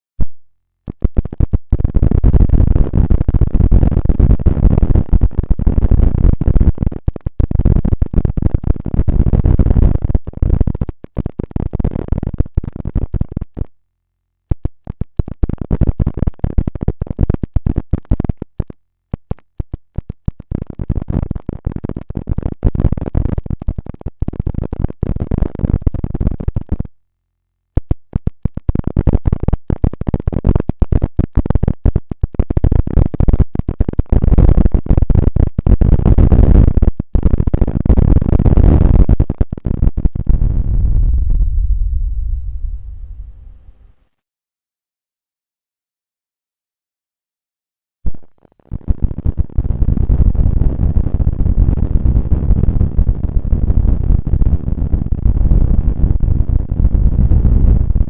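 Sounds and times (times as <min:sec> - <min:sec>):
harsh scratchy crackle: 0:00.8 - 0:13.8, 0:14.4 - 0:27.0, 0:27.7 - 0:44.1, 0:48.1 - 0:58.0.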